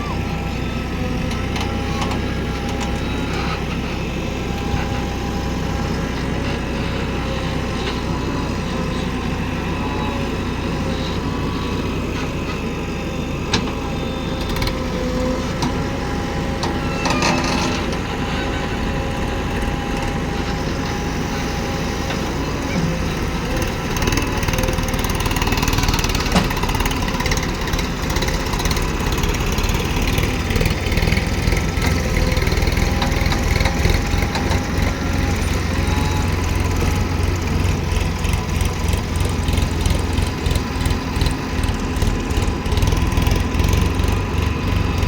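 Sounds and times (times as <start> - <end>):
diesel engines running: 0.0 - 45.0.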